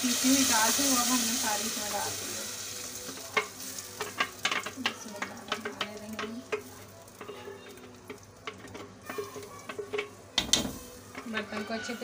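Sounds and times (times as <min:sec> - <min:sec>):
paste sizzling in hot fat: 0:00.0 - 0:12.0.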